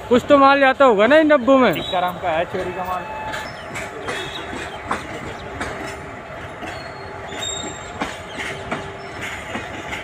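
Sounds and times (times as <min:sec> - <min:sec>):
steady train rumble: 0:00.0 - 0:10.0
train wheels clacking on rail joints: 0:00.0 - 0:10.0.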